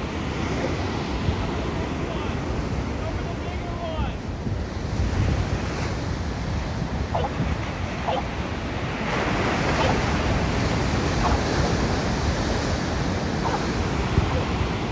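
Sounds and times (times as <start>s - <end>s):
ocean surf breaking: 0.0s - 14.9s
wind rumbling on microphone: 0.0s - 14.9s.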